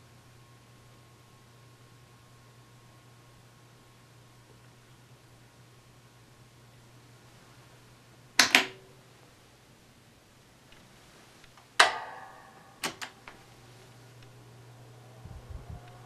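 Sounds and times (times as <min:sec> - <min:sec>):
fan motor humming: 0:00.0 - 0:16.0.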